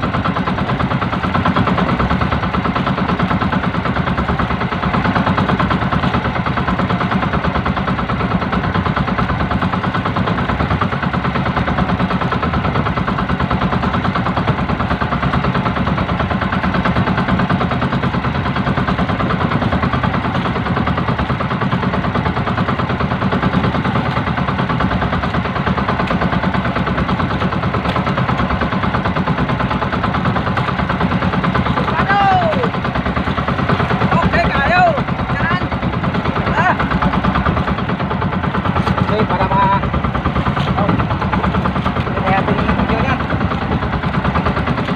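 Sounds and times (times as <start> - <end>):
boat engine puttering: 0.0 - 44.9.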